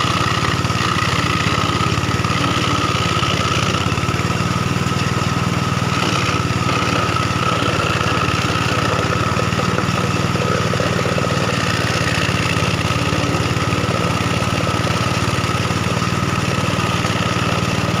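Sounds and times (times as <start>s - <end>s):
wood crusher engine drone: 0.0s - 18.0s.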